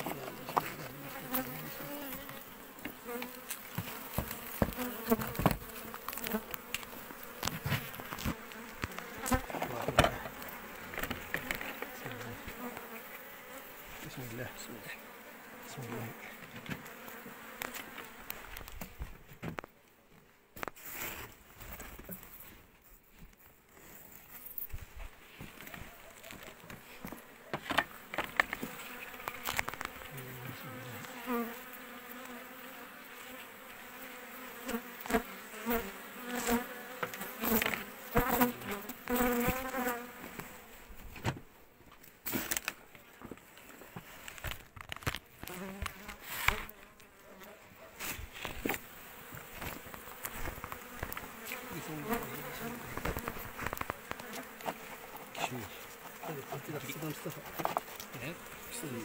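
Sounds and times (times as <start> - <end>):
honeybees buzzing: 0.0 - 19.1, 25.3 - 41.0, 44.3 - 59.0.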